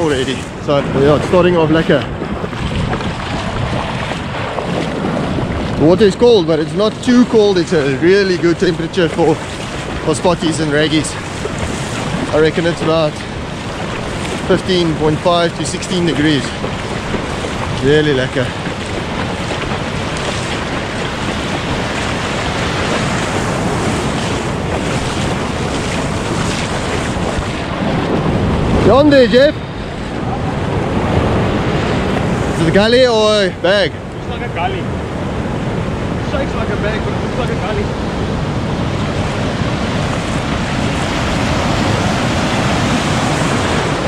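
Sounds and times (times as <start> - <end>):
ocean surf breaking: 0.0 - 44.0
wind buffeting microphone: 0.0 - 44.0.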